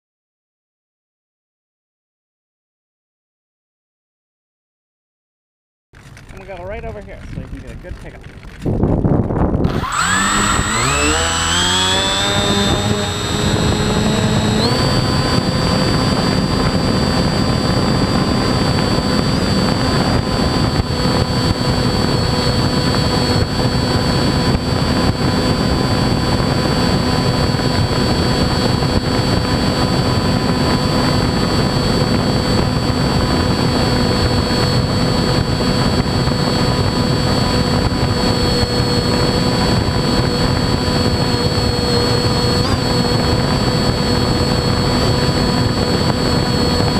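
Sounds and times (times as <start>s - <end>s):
model airplane motor and propeller: 6.0s - 46.9s.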